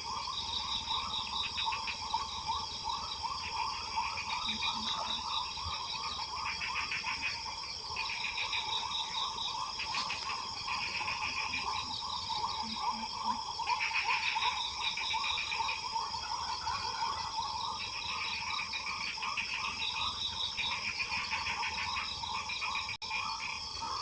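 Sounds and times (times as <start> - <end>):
rapid repeated animal calls: 0.0 - 24.0.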